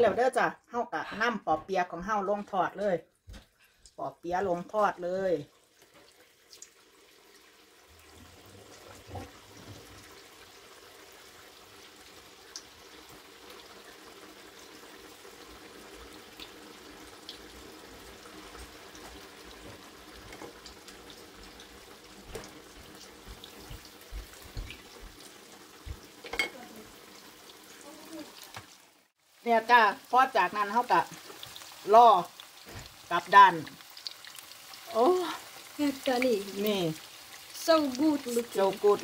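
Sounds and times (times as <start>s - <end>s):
oil sizzling with pops: 0.0s - 39.0s.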